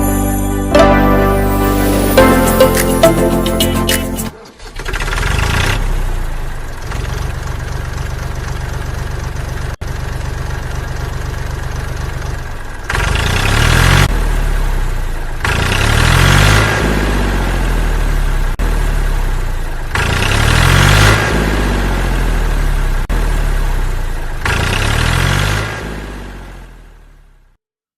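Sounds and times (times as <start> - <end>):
engine idling and revving: 4.4 - 27.4.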